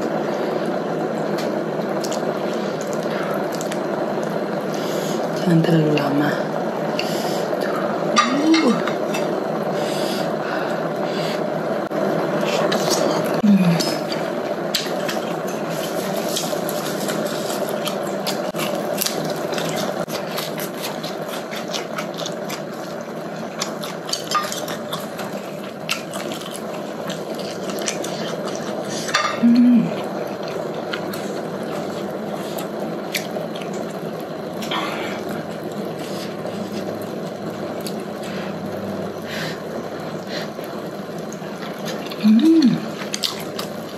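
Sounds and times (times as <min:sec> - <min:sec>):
broth simmering in a pot: 0:00.0 - 0:43.9.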